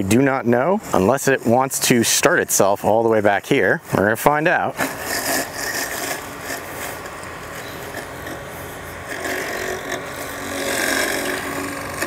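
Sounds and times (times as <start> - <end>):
robotic lawn mower whirring: 0.0 - 12.0.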